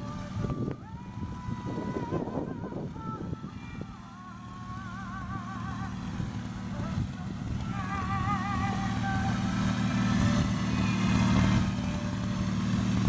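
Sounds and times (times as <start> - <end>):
wavering sung tone: 0.0 - 12.3
garden tractor engines running: 0.0 - 13.0.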